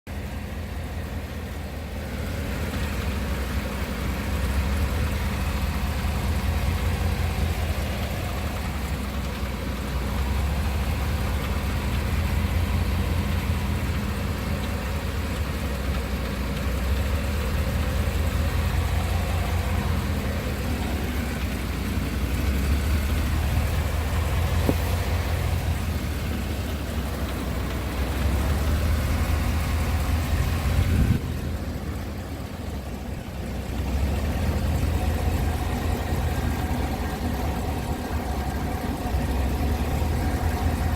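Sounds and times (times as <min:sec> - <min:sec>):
car engine running with knocking: 0:00.0 - 0:40.9.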